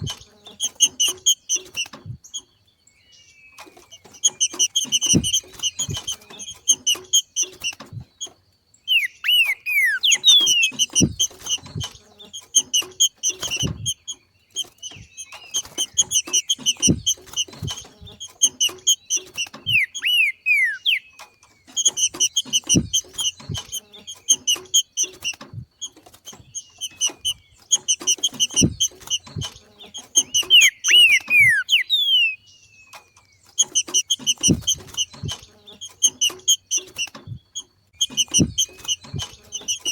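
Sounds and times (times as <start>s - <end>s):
bird chattering and whistling: 3.8s - 7.9s, 8.8s - 25.3s, 26.3s - 37.2s, 38.0s - 39.9s.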